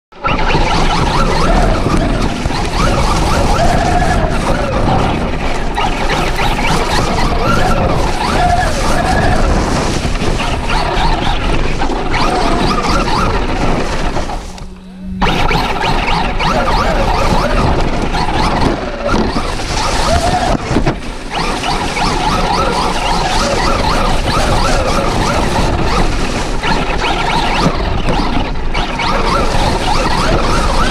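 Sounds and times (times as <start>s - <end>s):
electric motor whine: 0.2s - 30.9s.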